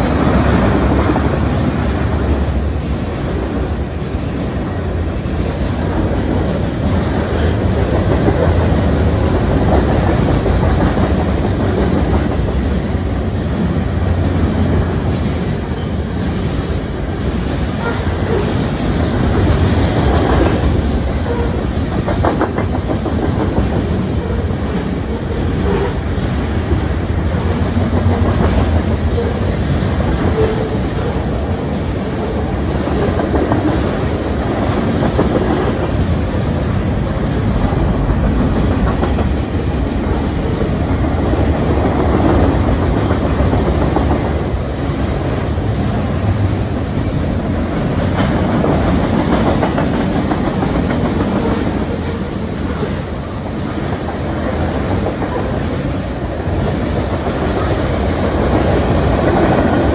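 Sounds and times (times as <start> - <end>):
train wheels clacking: 4.8 - 13.1, 14.2 - 36.3, 37.4 - 46.5, 47.6 - 59.9.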